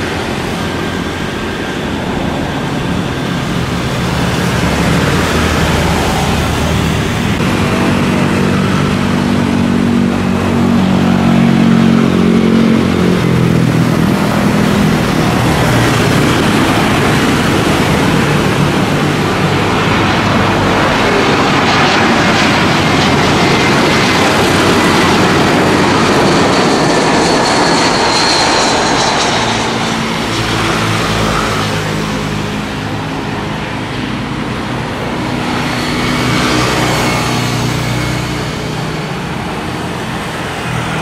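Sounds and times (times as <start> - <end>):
jet engine noise: 0.0 - 41.0.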